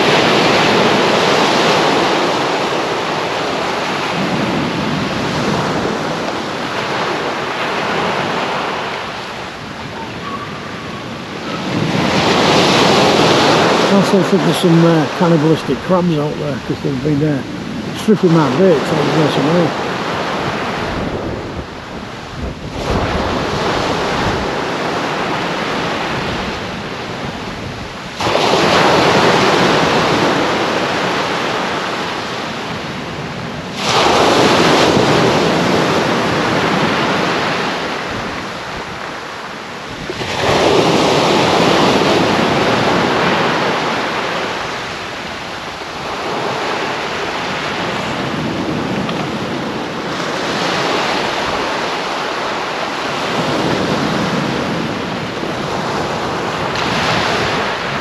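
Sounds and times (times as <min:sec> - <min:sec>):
small waves breaking on beach: 0:00.0 - 0:58.0
wind buffeting microphone: 0:00.0 - 0:58.0.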